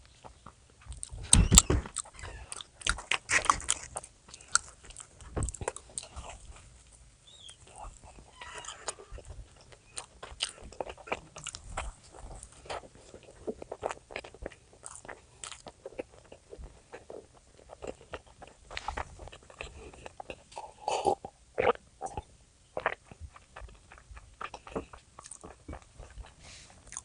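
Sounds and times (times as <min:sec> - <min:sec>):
person chewing and crunching: 0:00.1 - 0:27.0.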